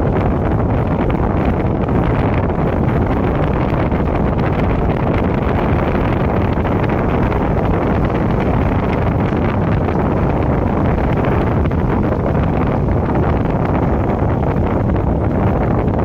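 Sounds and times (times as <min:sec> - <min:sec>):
car road noise: 0:00.0 - 0:16.0
wind on microphone: 0:00.0 - 0:16.0.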